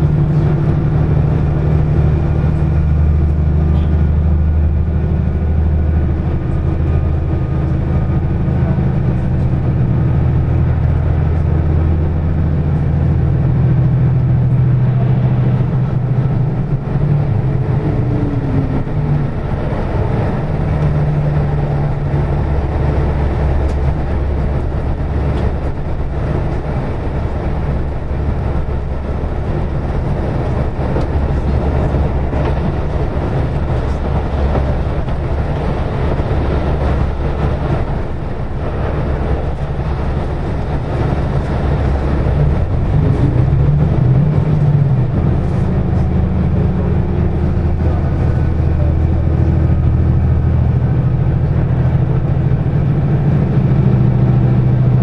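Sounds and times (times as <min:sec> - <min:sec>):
diesel railcar engine drone: 0:00.0 - 0:55.0.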